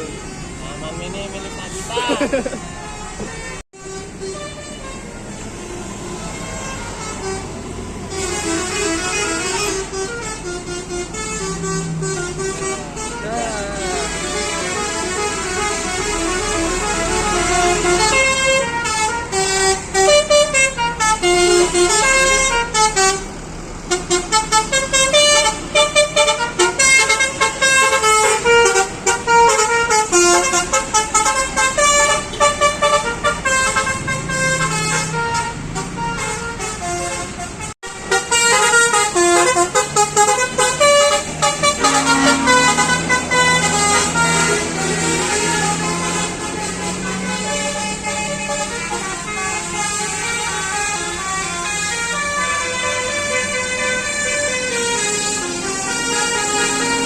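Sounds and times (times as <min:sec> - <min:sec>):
bus horns playing melodic runs: 0:00.0 - 0:57.0.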